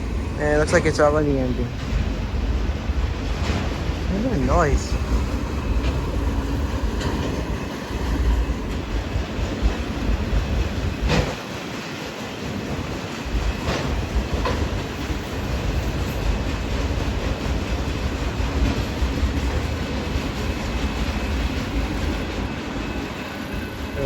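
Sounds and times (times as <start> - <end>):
train cars clanking: 0.0 - 24.0
train wheels rumbling on rails: 0.0 - 24.0.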